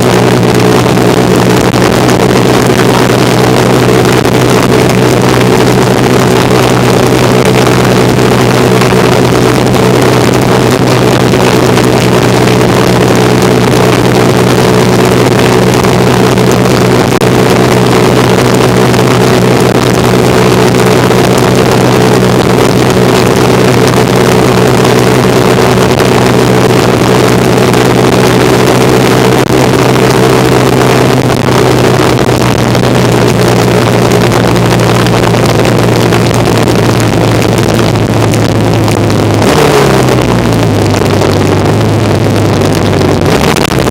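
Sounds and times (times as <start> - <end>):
motorcycle engine running: 0.0 - 43.9
wind and road noise: 0.0 - 43.9.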